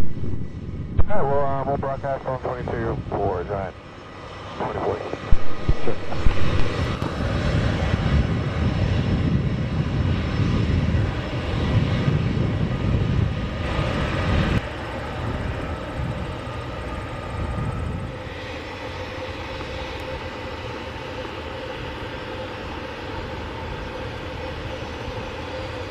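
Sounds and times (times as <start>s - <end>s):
jet engines running: 0.0s - 25.9s.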